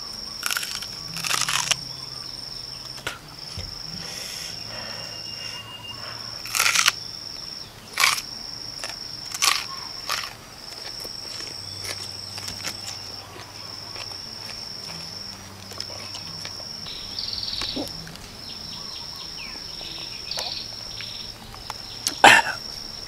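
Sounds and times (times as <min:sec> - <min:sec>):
person chewing crunchy onion: 0:00.0 - 0:02.2, 0:03.8 - 0:07.1, 0:07.9 - 0:22.7
high-pitched insect buzz: 0:00.0 - 0:23.0.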